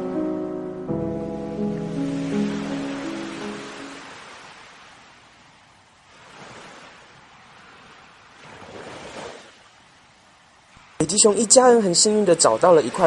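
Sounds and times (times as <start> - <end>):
ocean waves surf hiss: 1.1 - 13.0.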